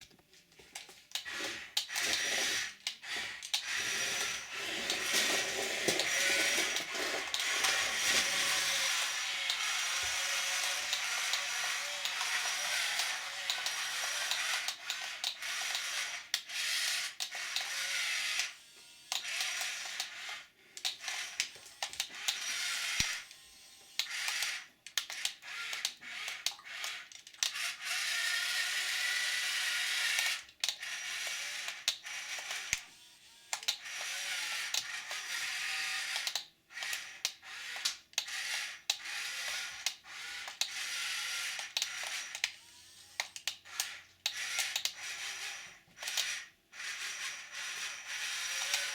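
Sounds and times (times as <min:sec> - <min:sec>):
toy motor and gearbox whirring: 0:00.7 - 0:48.9.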